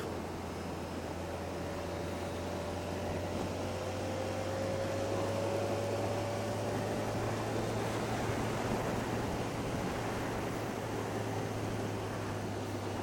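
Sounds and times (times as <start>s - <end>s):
motorcycle engine hum: 0.0s - 13.0s
wind rushing over microphone: 0.0s - 13.0s.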